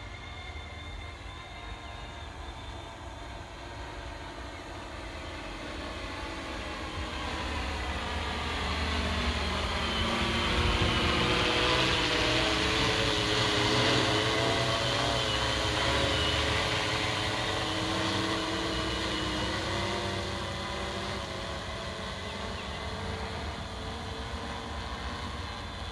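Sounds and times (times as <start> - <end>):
drone propellers whirring: 0.0 - 25.9.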